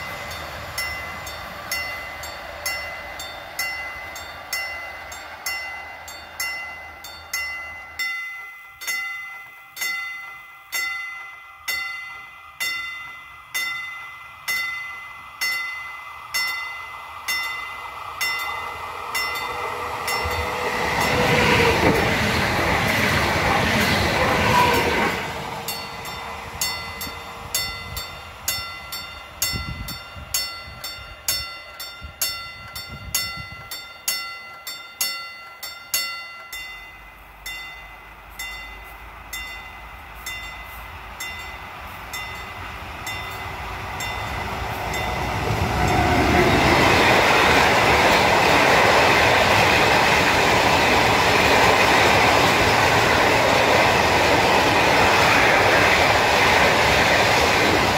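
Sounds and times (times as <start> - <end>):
level crossing warning bell: 0.0 - 55.1
freight train approaching: 0.0 - 57.9
passenger train passing: 0.0 - 57.9.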